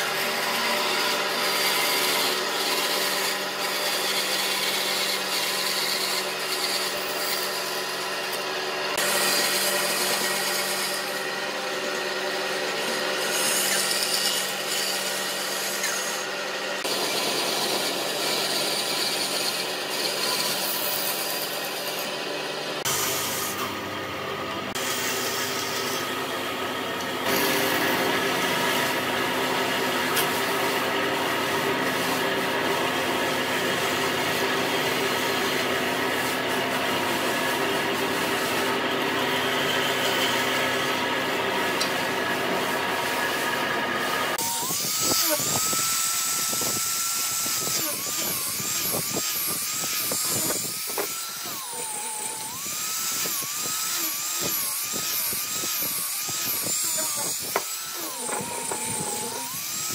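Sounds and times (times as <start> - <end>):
angle grinder sanding wood: 0.0 - 59.9
band saw cutting wood: 0.0 - 59.9.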